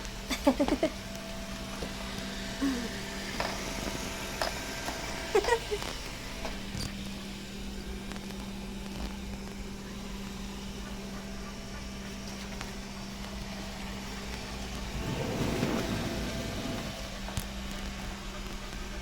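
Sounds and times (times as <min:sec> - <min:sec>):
machine humming: 0:00.0 - 0:19.0.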